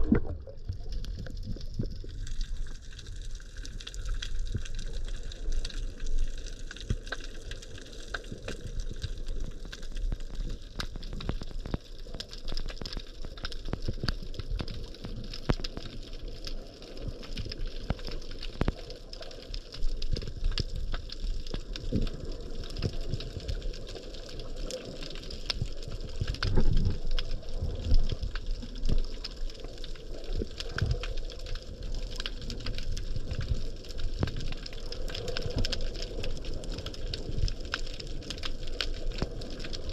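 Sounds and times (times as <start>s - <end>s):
underwater water rushing: 0.0s - 39.9s.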